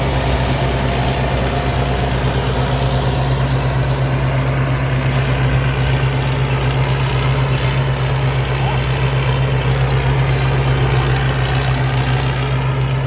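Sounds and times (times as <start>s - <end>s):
combine harvester engine drone: 0.0s - 13.0s
high-pitched whine: 0.0s - 13.0s.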